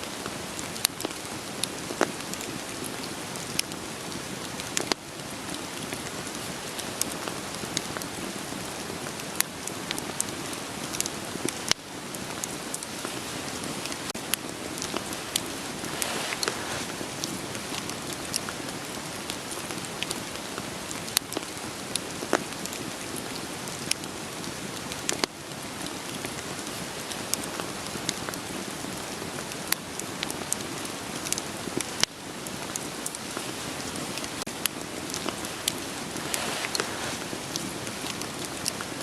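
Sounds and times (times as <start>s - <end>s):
steady rain falling: 0.0s - 39.0s
wood fire crackling: 0.1s - 39.0s.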